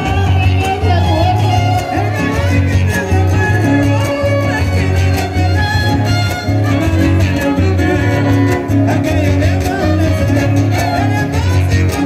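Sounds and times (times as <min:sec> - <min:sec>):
bass guitar: 0:00.0 - 0:12.0
strummed guitar rhythm: 0:00.0 - 0:12.0
violin melody: 0:00.0 - 0:12.0.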